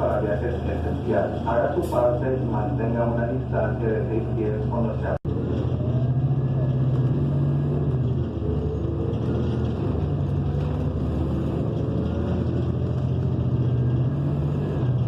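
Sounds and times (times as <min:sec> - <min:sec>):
bus engine low drone: 0:00.0 - 0:15.0
road noise: 0:00.0 - 0:15.0.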